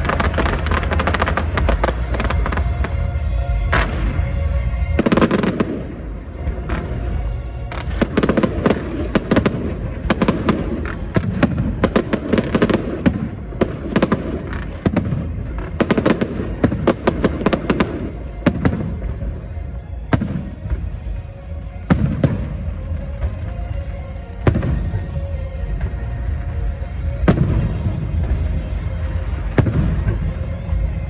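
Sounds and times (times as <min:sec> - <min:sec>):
fireworks bangs and crackles: 0:00.0 - 0:31.0
music: 0:00.0 - 0:31.0.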